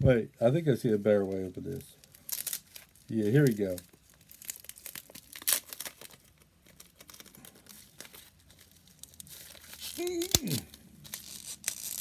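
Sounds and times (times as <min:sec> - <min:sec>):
packaging crinkling and rustling: 0:01.1 - 0:12.0
packaging tearing: 0:02.0 - 0:12.0.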